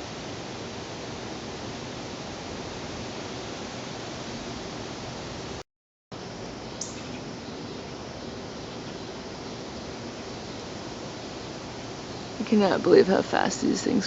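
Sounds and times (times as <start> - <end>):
hiss-like background noise: 0.0 - 5.6, 6.2 - 14.0.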